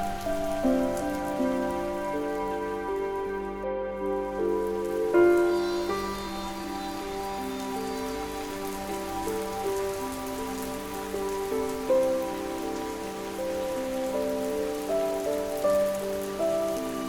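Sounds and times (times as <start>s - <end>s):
soft sleep music with drone: 0.0s - 17.0s
steady rain: 0.0s - 17.0s.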